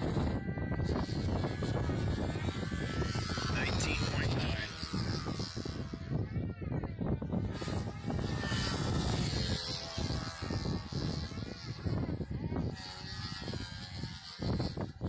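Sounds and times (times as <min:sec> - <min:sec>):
model airplane engine whining: 0:00.0 - 0:15.0.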